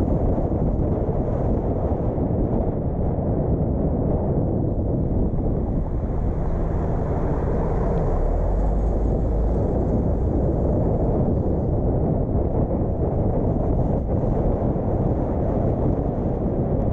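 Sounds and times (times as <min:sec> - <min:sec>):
car road and wind noise: 0:00.0 - 0:16.9.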